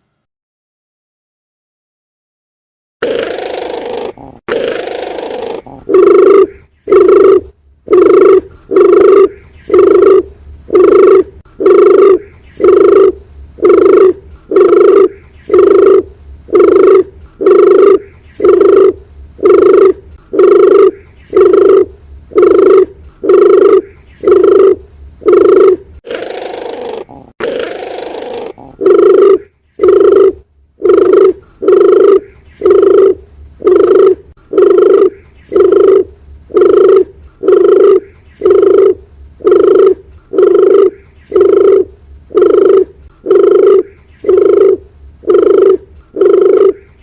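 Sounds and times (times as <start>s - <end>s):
dove cooing: 3.0s - 47.0s.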